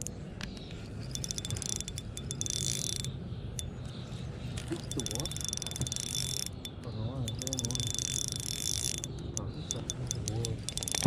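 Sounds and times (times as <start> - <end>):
steady low hum: 0.0 - 11.0
fishing reel ticking: 0.8 - 11.0.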